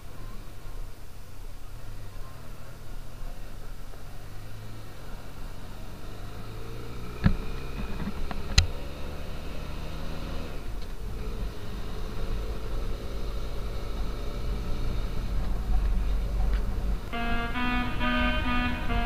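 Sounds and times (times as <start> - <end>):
motorcycle engine running: 1.6 - 19.0.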